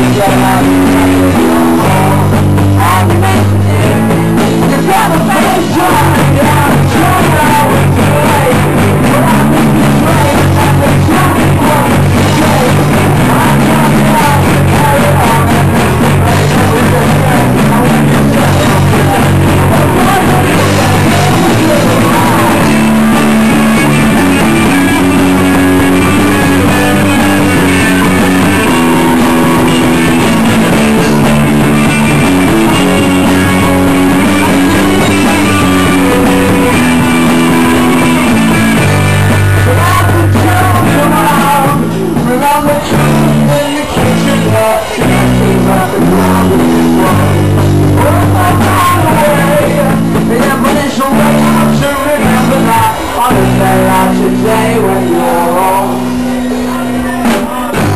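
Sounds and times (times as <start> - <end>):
live rock band playing: 0.0 - 57.9
person singing: 0.0 - 57.9.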